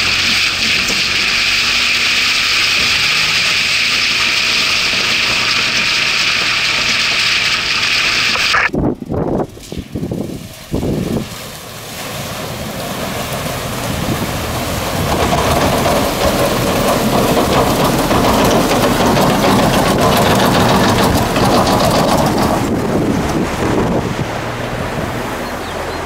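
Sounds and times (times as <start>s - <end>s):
water splashing and rushing: 0.0s - 8.7s, 9.4s - 26.0s
truck engine running: 0.0s - 26.0s.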